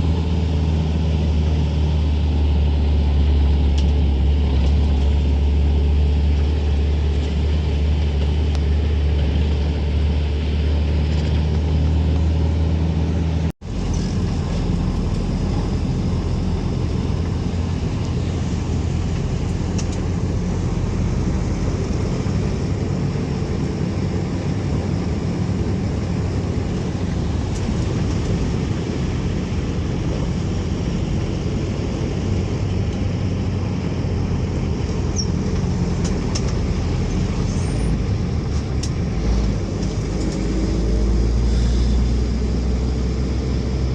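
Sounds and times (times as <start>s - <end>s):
road rumble: 0.0s - 43.9s
vehicle engine: 0.0s - 43.9s.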